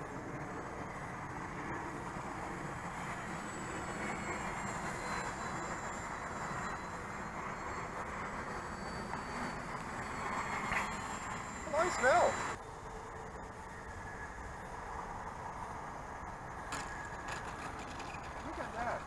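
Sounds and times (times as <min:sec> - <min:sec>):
model airplane motor whine: 0:00.0 - 0:15.2, 0:16.4 - 0:19.0.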